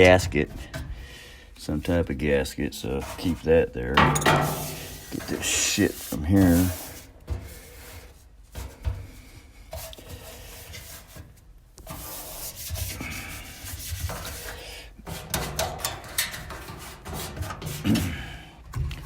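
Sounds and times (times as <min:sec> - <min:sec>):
rubbing and scraping inside dryer: 0:00.0 - 0:19.0.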